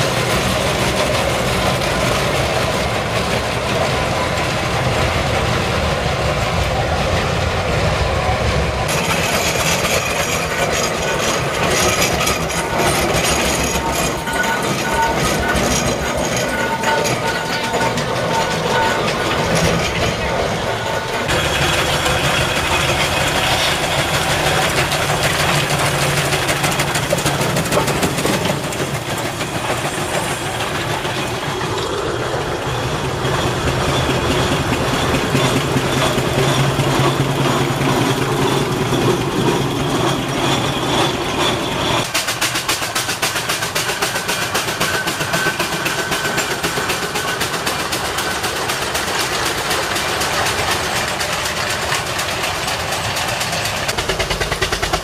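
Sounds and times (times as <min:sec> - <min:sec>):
steam engines clattering: 0:00.0 - 0:55.0.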